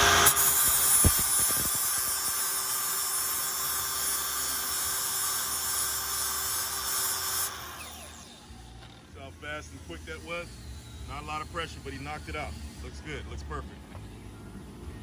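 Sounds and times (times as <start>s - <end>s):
angle grinder grinding metal: 0.0s - 13.8s.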